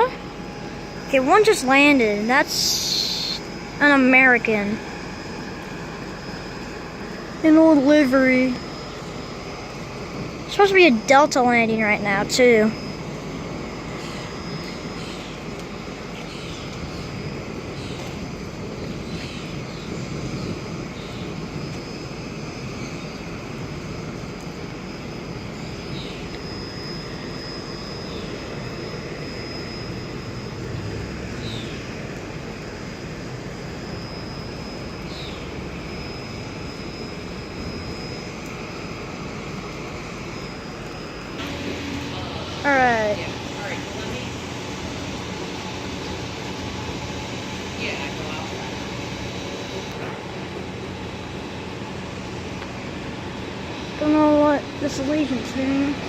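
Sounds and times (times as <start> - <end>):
jet engines rushing: 0.0 - 56.0
thin high whine: 0.0 - 56.0.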